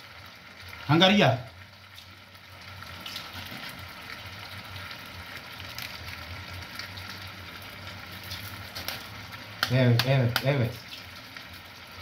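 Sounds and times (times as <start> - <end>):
food sizzling in hot oil: 0.0 - 12.0
oil crackling and popping: 0.0 - 12.0.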